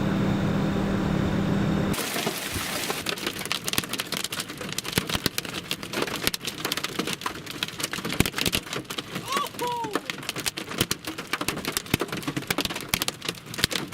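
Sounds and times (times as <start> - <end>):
hailstones pelting down: 1.9 - 13.9.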